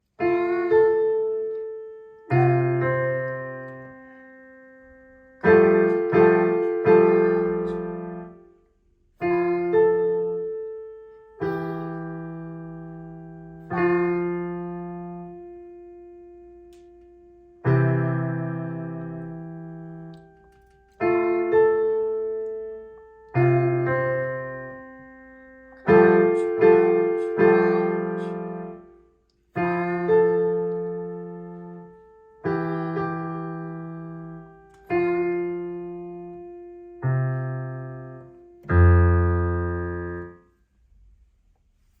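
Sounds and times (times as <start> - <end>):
slow piano chords: 0.0 - 42.0.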